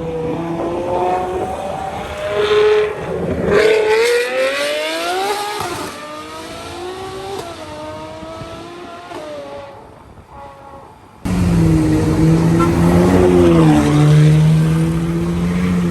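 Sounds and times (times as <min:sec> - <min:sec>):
sports car accelerating hard: 0:00.0 - 0:09.8, 0:11.3 - 0:15.9.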